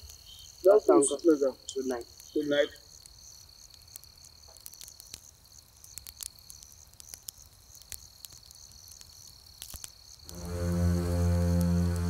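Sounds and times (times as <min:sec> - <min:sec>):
crickets chirping: 0:00.0 - 0:12.0
fire crackling: 0:00.0 - 0:12.0.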